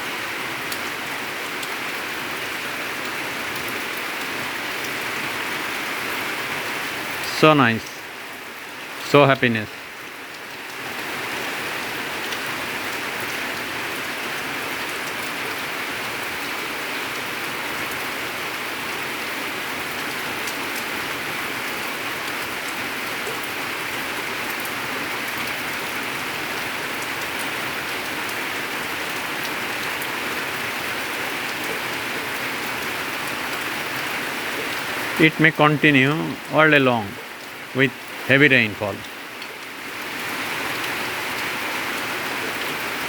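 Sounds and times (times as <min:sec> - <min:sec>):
steady rain hissing: 0:00.0 - 0:43.0.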